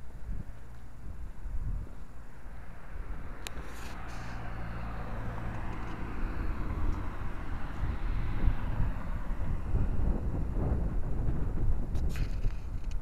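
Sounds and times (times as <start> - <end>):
road and wind noise: 0.0 - 13.0
vehicle engine hum: 0.0 - 13.0.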